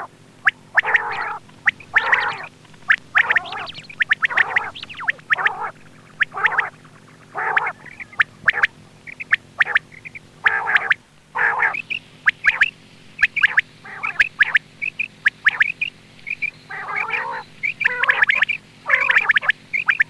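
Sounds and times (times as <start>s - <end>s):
faint steady hum: 0.0s - 20.0s
quail calling: 0.0s - 20.0s.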